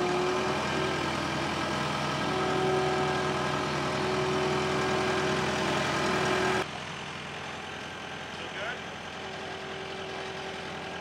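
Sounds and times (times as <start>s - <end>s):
skid steer engine with whine: 0.0s - 11.0s.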